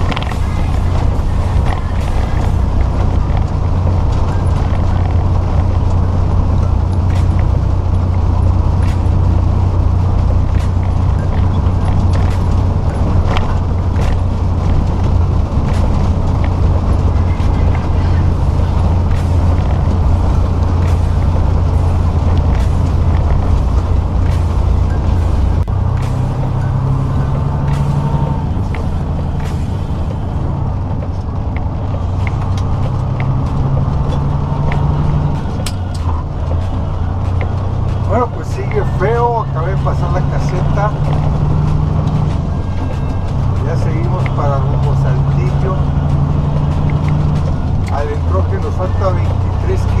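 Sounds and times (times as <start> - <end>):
truck engine drone: 0.0 - 50.0
tyres on wet road: 0.0 - 50.0.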